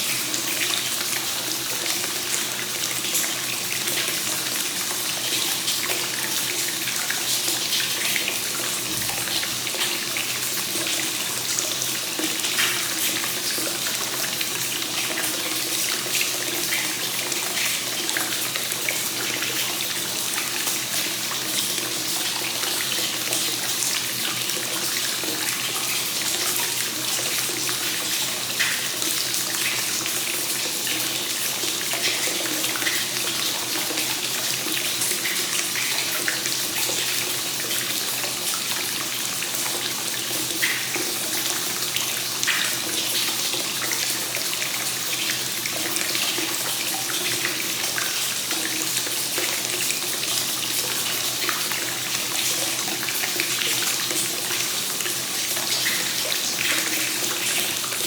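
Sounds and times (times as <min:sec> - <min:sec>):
water pouring into a bath: 0:00.0 - 0:58.0.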